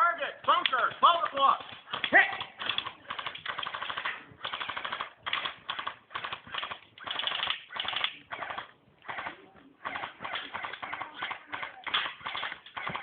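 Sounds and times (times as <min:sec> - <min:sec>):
airsoft guns firing: 0:00.4 - 0:13.0.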